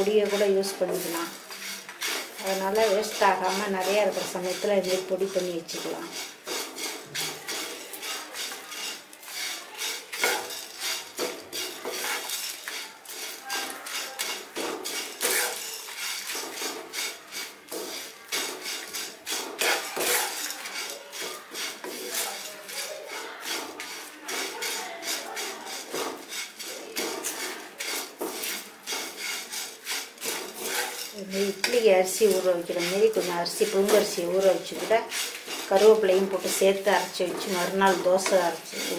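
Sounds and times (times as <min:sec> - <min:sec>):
spatula scraping a pan: 0:00.0 - 0:38.9.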